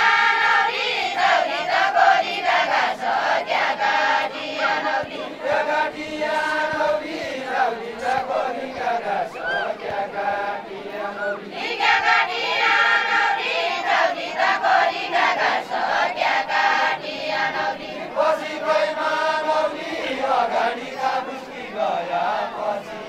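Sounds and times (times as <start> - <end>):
women singing unaccompanied: 0.0 - 23.0.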